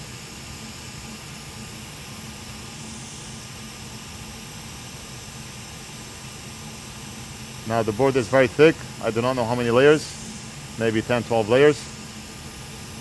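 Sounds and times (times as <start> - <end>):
hot air blowing: 0.0 - 13.0.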